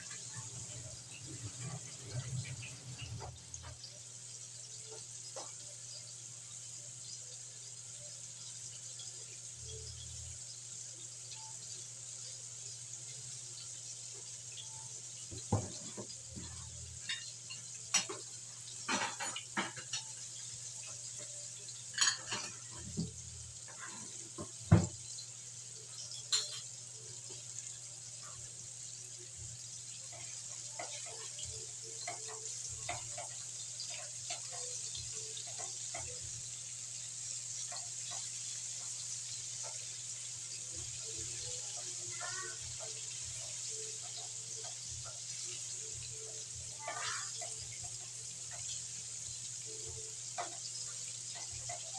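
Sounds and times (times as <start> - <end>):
chicken sizzling in oil: 0.0 - 51.9.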